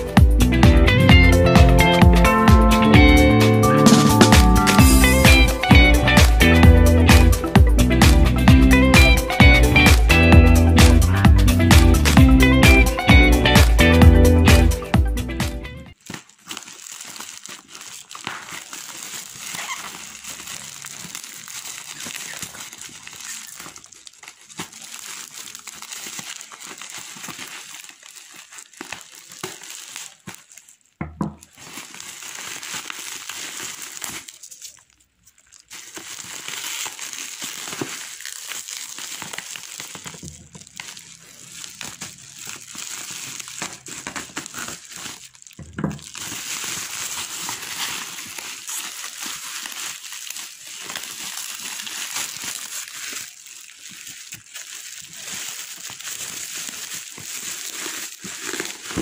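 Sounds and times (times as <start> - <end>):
bubble wrap crinkling: 1.4 - 59.0.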